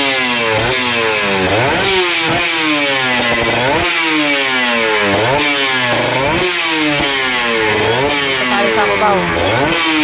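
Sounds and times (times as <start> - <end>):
two-stroke engine revving: 0.0 - 10.0.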